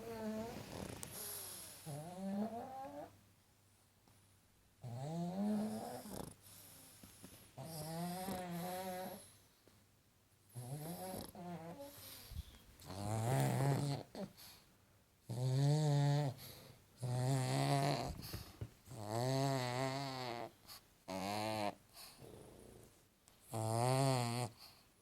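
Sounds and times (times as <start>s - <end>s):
dog snoring: 0.0s - 3.2s, 4.8s - 7.0s, 7.6s - 9.4s, 10.5s - 14.6s, 15.3s - 24.8s.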